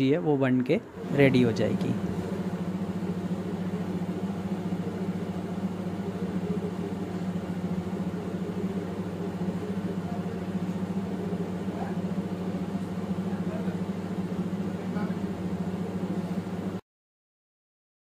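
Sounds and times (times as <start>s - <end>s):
low mechanical hum: 0.0s - 16.8s.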